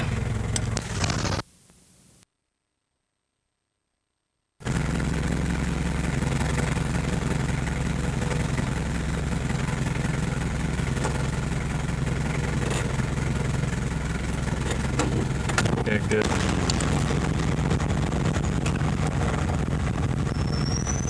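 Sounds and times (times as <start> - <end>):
low mechanical hum: 0.0 - 2.2, 4.6 - 21.0.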